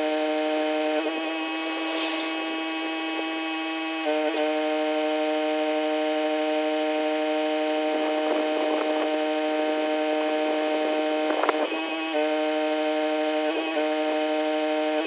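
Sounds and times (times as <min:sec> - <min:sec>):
pressure washer running: 0:00.0 - 0:15.0.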